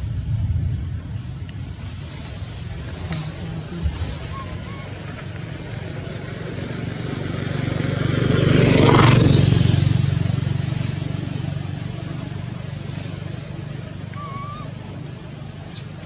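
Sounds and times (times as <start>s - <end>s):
motor vehicle passing by: 1.7s - 16.0s.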